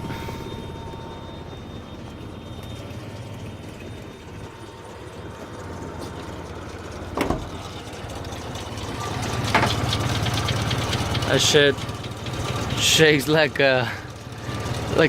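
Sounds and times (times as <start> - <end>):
rough engine idling: 0.0 - 15.0.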